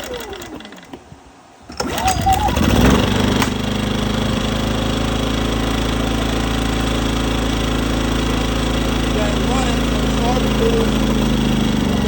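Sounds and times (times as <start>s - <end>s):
small generator engine running: 0.0s - 1.0s, 1.7s - 12.0s.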